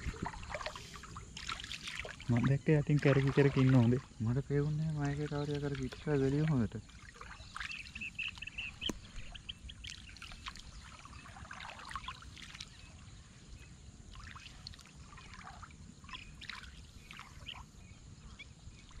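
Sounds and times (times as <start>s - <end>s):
water sloshing around wading legs: 0.0s - 17.9s.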